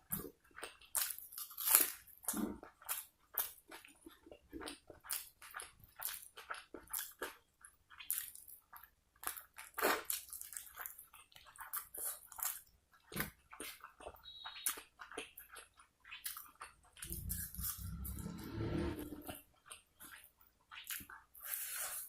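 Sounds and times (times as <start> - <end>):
person chewing with mouth smacks: 0.0 - 18.1, 19.4 - 22.0.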